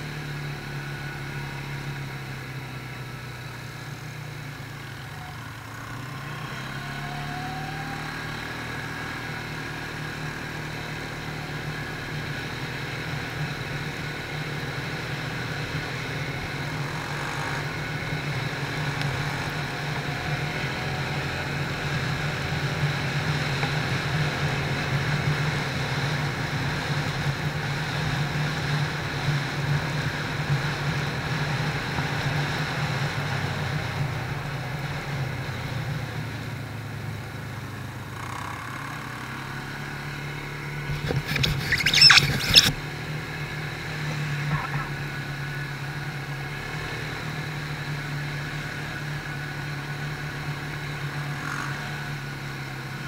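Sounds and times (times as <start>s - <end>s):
quad bike engine running: 0.0s - 53.0s.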